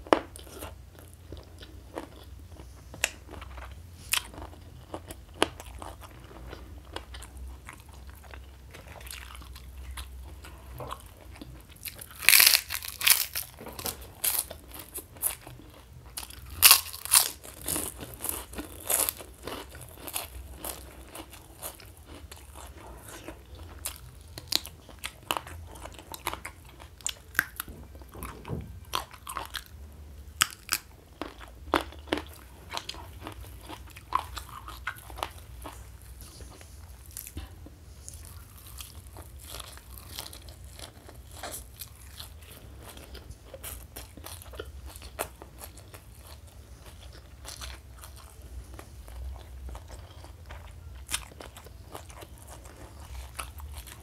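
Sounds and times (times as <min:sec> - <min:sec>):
person chewing food: 0:00.0 - 0:29.8, 0:30.4 - 0:54.0.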